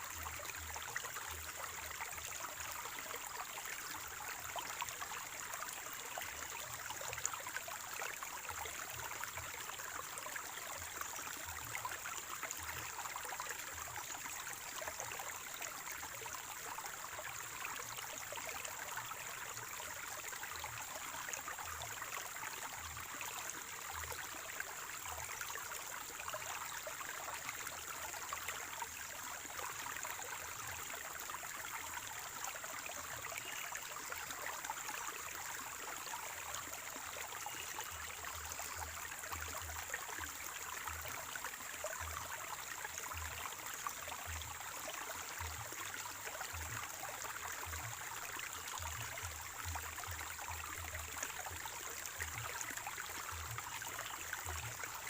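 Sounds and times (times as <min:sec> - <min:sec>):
stream gurgling and trickling: 0:00.0 - 0:55.0.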